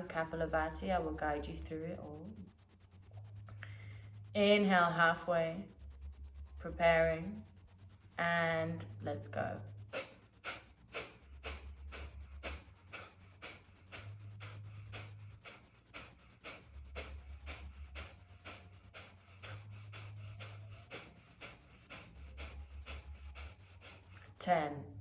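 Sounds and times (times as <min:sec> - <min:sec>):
low hum: 0:00.0 - 0:25.0
rapid forceful nasal exhales: 0:01.8 - 0:04.4, 0:05.7 - 0:24.6.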